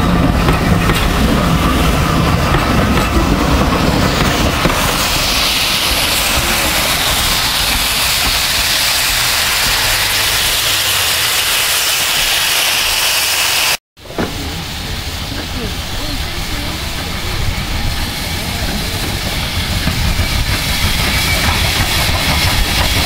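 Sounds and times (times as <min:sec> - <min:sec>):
steam hissing: 0:00.0 - 0:23.0
steam train rumble and clatter: 0:00.0 - 0:23.0.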